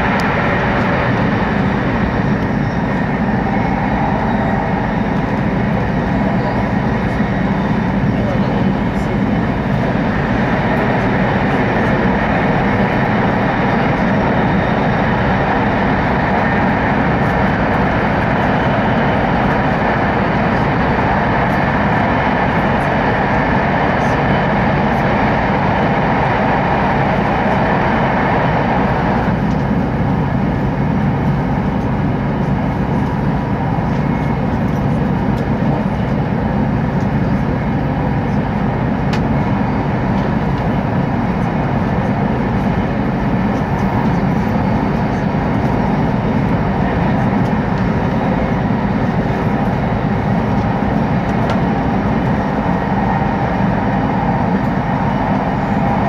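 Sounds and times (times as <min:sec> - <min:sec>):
train rumble inside passenger car: 0:00.0 - 0:56.0.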